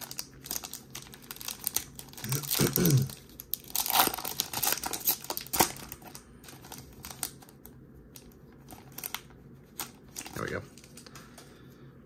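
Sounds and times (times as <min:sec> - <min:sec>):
foil wrapper crinkling: 0:00.0 - 0:11.2.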